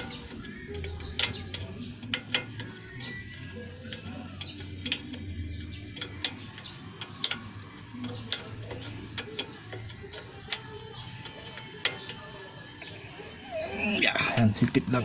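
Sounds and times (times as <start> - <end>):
wrench clicking on metal nut: 0.0 - 12.5.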